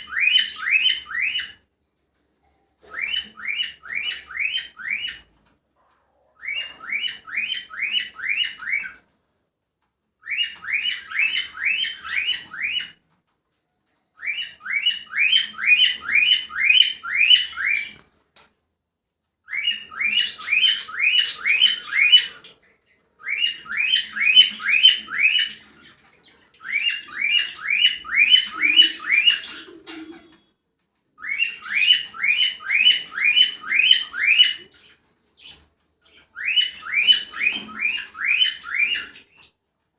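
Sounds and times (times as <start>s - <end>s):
cockatiel chirping: 0.0s - 1.6s, 2.8s - 5.3s, 6.3s - 9.0s, 10.2s - 13.0s, 14.2s - 18.0s, 19.5s - 22.6s, 23.2s - 30.5s, 31.2s - 39.5s.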